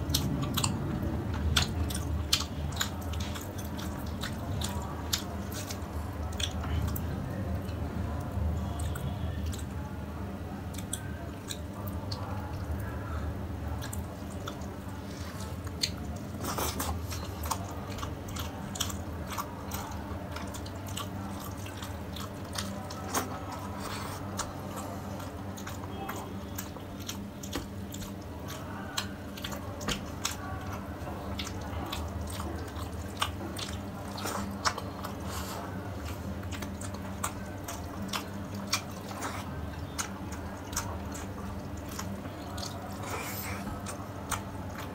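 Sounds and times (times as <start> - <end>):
chewing and wet mouth clicks: 0.0 - 9.8, 10.6 - 12.9, 13.7 - 44.9
steady low hum: 0.0 - 44.9.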